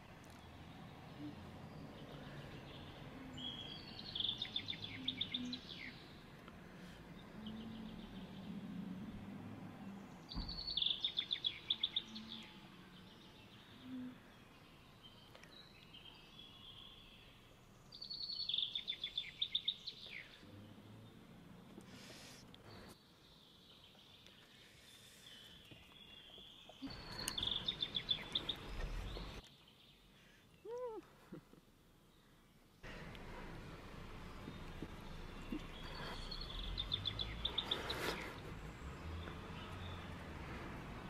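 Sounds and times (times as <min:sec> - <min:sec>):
faint outdoor background noise: 0:00.0 - 0:41.0
songbird singing: 0:00.0 - 0:41.0.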